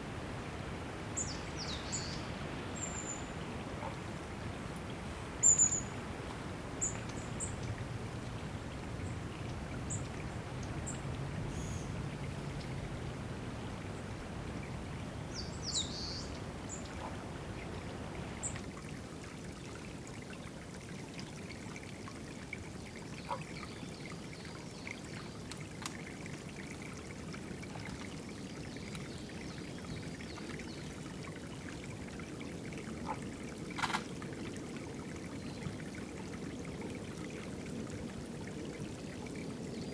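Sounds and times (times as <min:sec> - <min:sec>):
water trickling into pool: 0:00.0 - 0:39.9.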